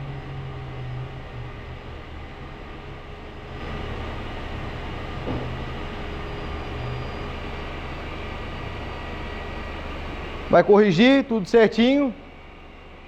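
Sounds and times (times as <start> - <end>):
suspension pump humming: 0.0 - 13.0.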